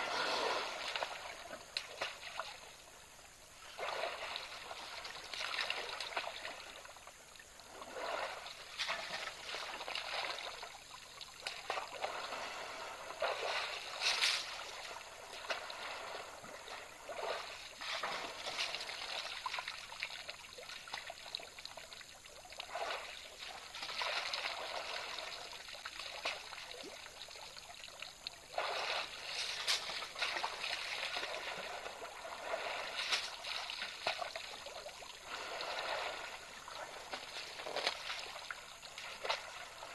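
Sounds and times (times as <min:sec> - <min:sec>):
elephants splashing in water: 0:00.0 - 0:02.9, 0:03.5 - 0:39.9.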